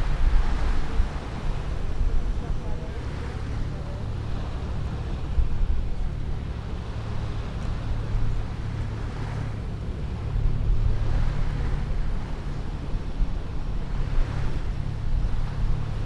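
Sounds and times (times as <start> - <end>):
waves washing on shore: 0.0 - 16.0
wind rumble on microphone: 0.0 - 16.0.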